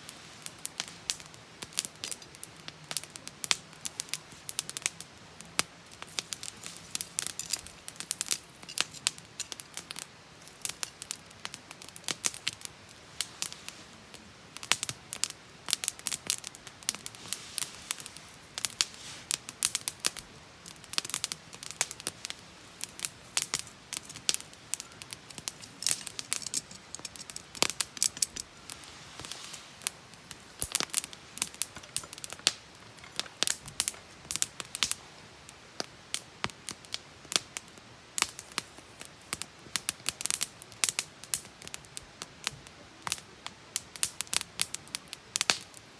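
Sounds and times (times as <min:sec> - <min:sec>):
campfire crackling and popping: 0:00.0 - 0:45.9
faint hiss: 0:00.0 - 0:45.9.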